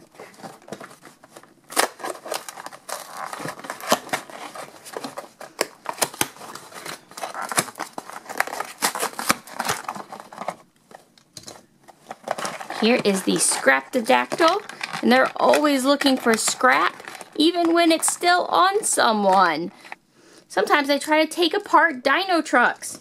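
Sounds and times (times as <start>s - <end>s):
cardboard rustling and tearing: 0.0s - 11.1s, 11.9s - 19.5s
plastic crinkling: 0.0s - 20.0s.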